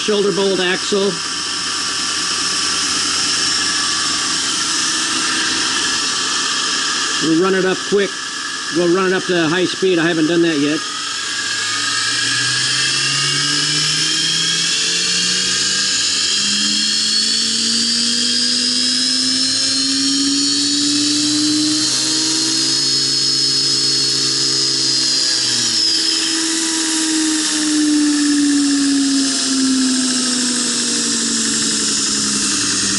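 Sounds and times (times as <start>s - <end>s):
belt grinder motor whine: 0.0s - 32.9s.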